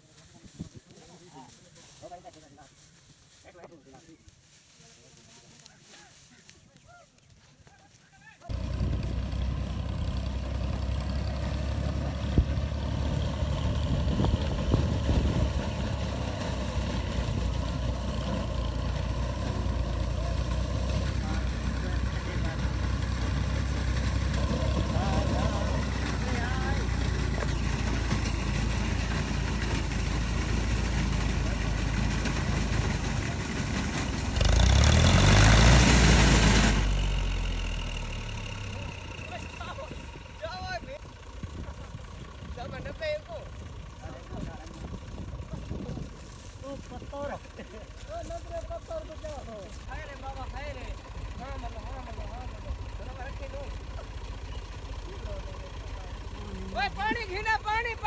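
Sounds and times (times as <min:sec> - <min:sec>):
tractor engine running: 0:08.4 - 0:58.0.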